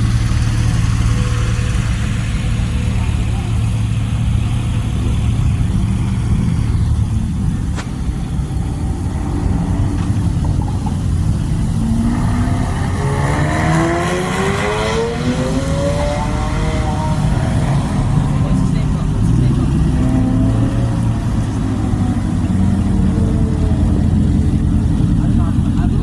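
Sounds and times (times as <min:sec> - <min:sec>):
car accelerating away: 0:00.0 - 0:26.0
car engines running low: 0:00.0 - 0:26.0.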